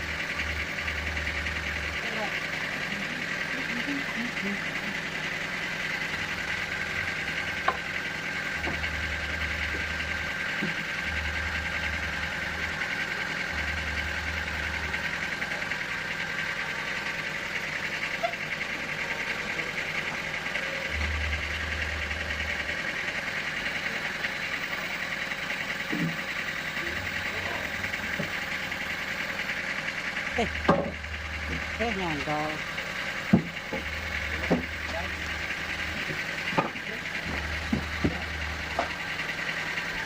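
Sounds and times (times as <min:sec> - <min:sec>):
constant high hum: 0:00.0 - 0:40.0
sawmill machinery running: 0:00.0 - 0:40.0.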